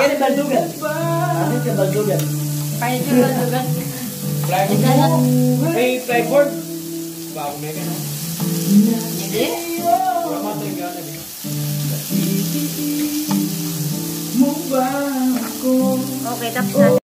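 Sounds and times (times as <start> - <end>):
background music: 0.0 - 17.0
meat sizzling on a grill pan: 0.0 - 17.0.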